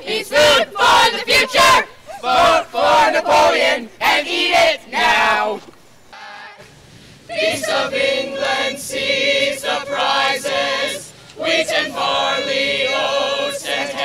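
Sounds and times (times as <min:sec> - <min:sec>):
crowd chanting: 0:00.0 - 0:06.7, 0:07.3 - 0:14.0
group singing a cappella: 0:00.0 - 0:14.0.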